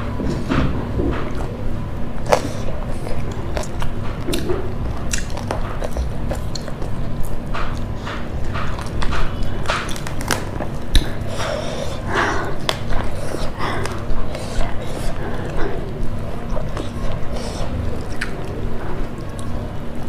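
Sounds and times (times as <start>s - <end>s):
low steady hum: 0.0s - 20.0s
close-up chewing and mouth clicks: 1.0s - 20.0s.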